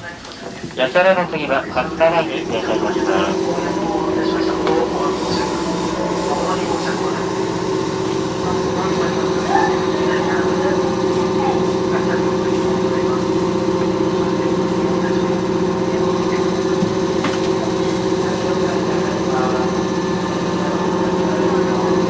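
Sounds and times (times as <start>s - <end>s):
wheels rumbling on rail: 0.0s - 22.0s
train motor whine: 0.6s - 22.0s.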